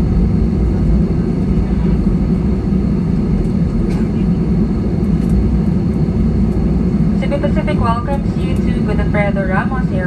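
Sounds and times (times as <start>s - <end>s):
airplane engine rumble in cabin: 0.0s - 10.0s.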